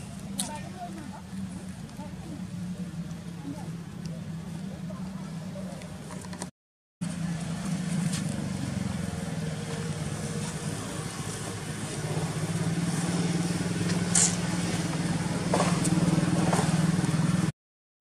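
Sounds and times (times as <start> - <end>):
engine running: 0.0 - 17.5.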